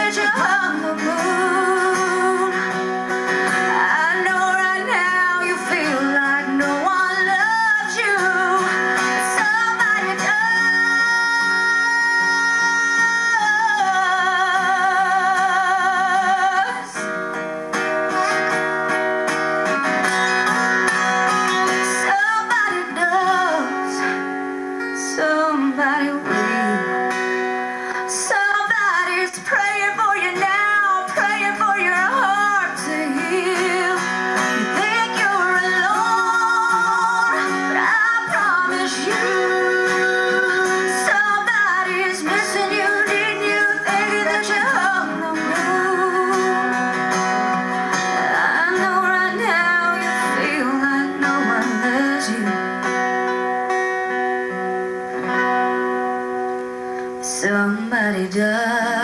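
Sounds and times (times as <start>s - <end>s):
acoustic guitars: 0.0s - 59.0s
woman singing country ballad: 0.0s - 59.0s.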